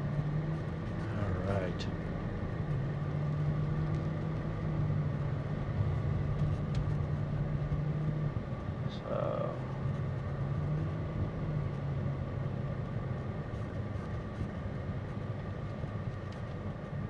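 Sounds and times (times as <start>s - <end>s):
car cabin engine and tyre hum: 0.0s - 17.0s.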